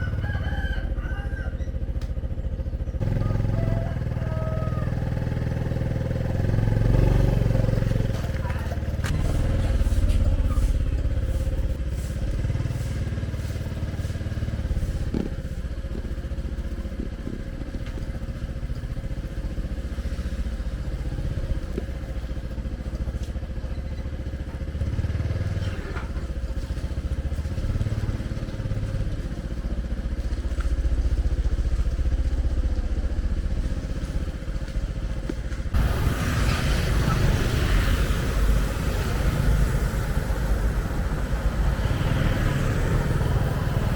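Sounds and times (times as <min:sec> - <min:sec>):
vehicle engine rumbling: 0:00.0 - 0:43.9.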